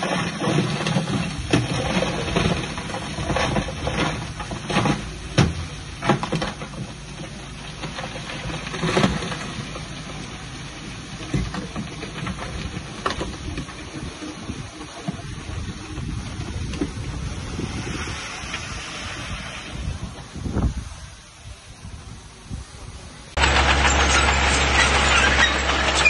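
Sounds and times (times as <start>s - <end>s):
bulldozer engine rumbling: 0.0s - 26.0s.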